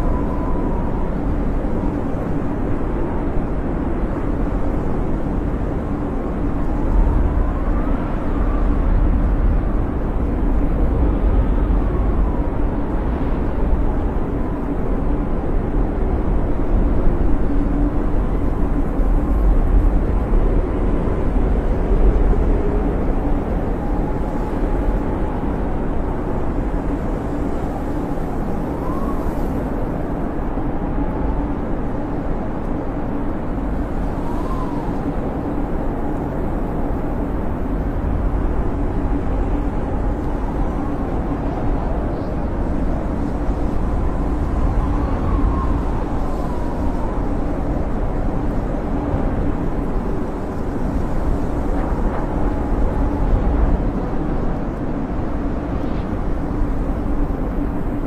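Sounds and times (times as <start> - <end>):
blizzard wind howling: 0.0 - 58.0.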